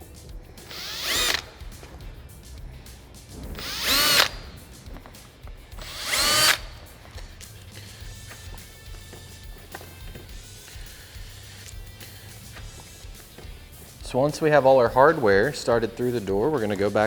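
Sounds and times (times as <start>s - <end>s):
power drill spinning: 0.0s - 14.2s.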